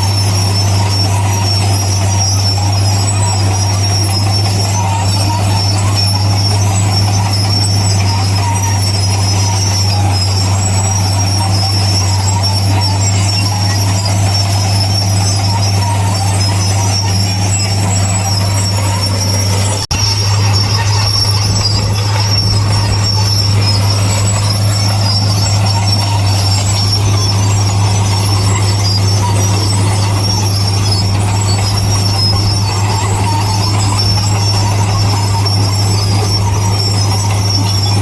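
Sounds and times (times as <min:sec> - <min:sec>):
diesel engine drone: 0:00.0 - 0:38.0
high metallic squeal: 0:00.0 - 0:38.0.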